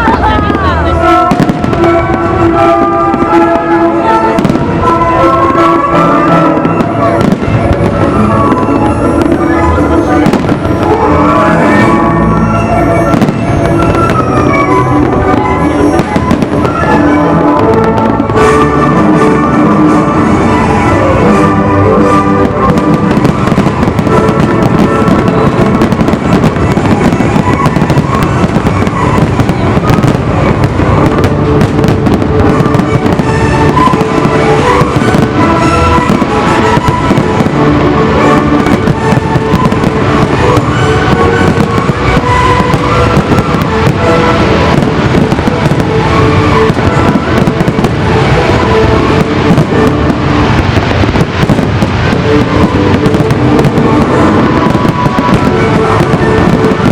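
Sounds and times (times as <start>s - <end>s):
fireworks bursting: 0.0s - 56.9s
loud music: 0.0s - 56.9s.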